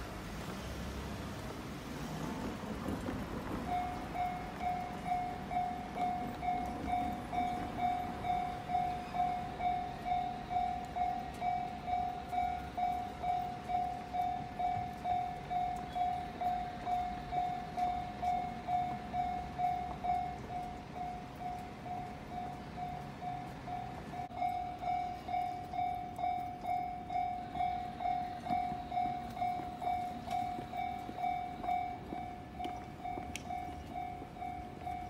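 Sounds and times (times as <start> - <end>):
level crossing warning bell: 2.2 - 35.0.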